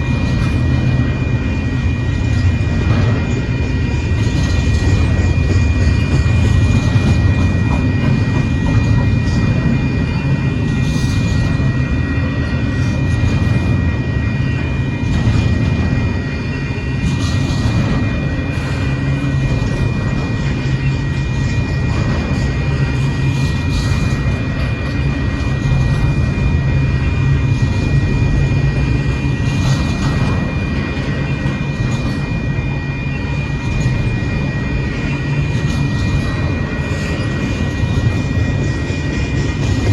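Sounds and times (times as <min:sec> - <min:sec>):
train clatter: 0:00.0 - 0:39.9
train wheels rumbling on rail: 0:00.0 - 0:39.9.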